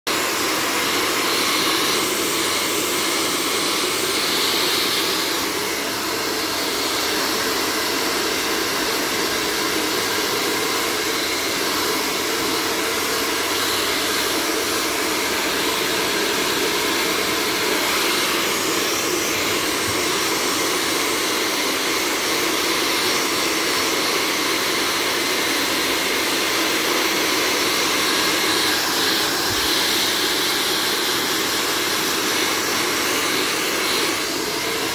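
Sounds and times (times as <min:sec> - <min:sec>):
blow dryer blowing air: 0:00.0 - 0:34.9.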